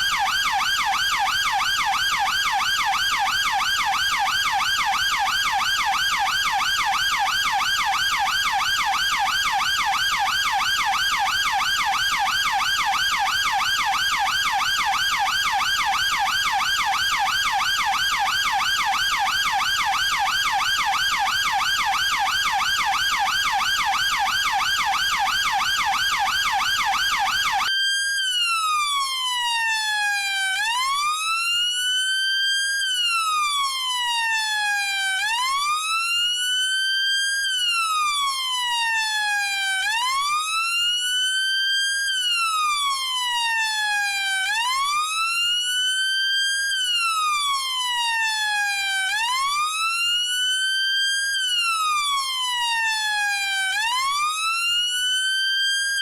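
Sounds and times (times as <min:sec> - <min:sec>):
police car electronic siren: 0:00.0 - 0:56.0.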